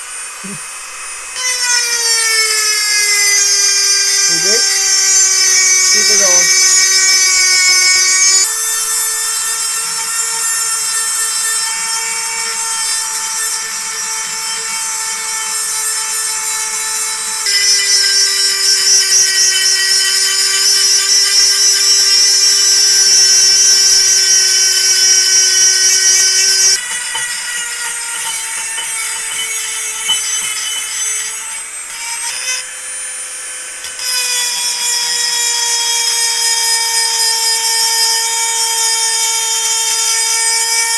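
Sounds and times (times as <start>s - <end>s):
power tool grinding metal: 0.0s - 40.9s.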